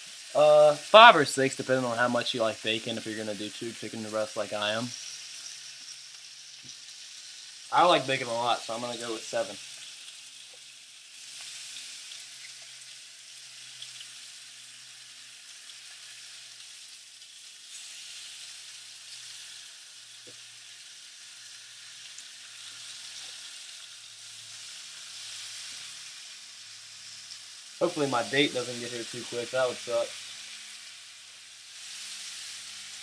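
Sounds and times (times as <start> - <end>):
bacon sizzling in a skillet: 0.0 - 33.0.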